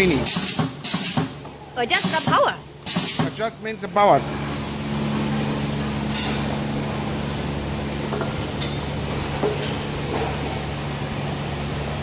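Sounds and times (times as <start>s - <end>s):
spot welding machine humming: 0.0s - 12.0s.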